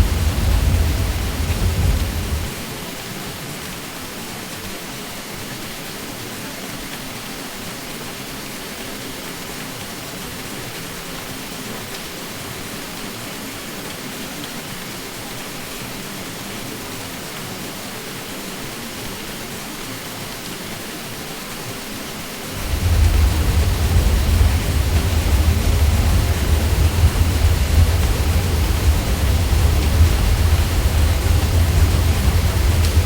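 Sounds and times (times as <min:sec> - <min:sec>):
continuous rushing noise: 0:00.0 - 0:33.0.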